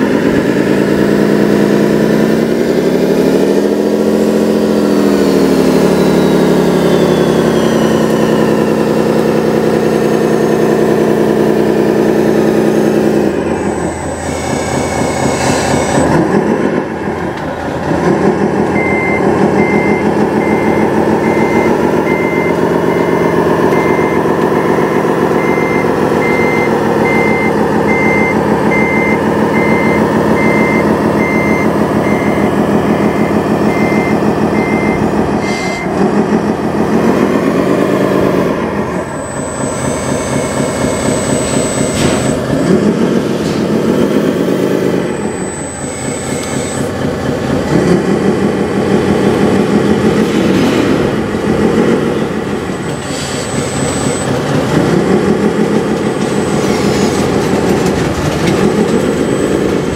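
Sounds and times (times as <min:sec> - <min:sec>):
reversing alarm beeping: 0:00.0 - 0:17.4, 0:18.0 - 0:59.9
simulated diesel engine running: 0:00.0 - 0:59.9.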